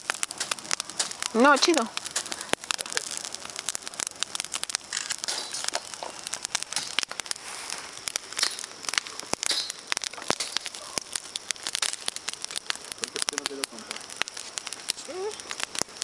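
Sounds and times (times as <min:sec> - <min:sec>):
grass crackling as it burns: 0:00.0 - 0:16.0.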